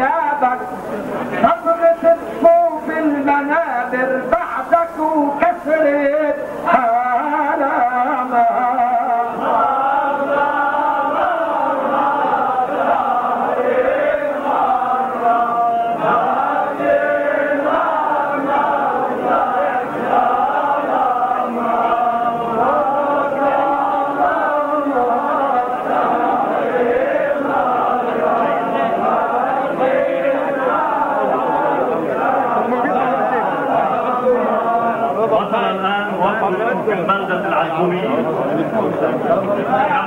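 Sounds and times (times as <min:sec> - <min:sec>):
men chanting together: 0:01.3 - 0:36.8.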